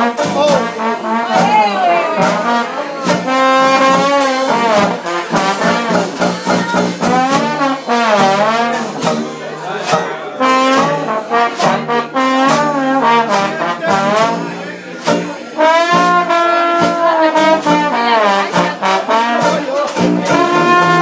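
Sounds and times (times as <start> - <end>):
brass band playing: 0.0 - 21.0
trombone melody: 0.0 - 21.0.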